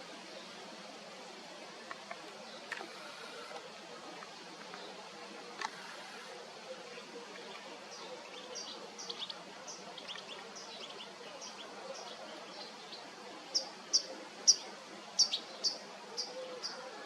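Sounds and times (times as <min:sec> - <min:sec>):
faint background hiss: 0:00.0 - 0:17.0
small birds chirping: 0:01.8 - 0:16.8.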